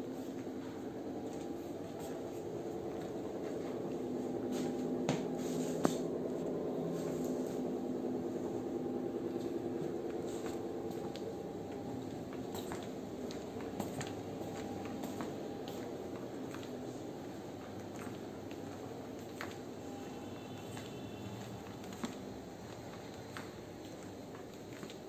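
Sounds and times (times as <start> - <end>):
machine hum: 0.0 - 24.8.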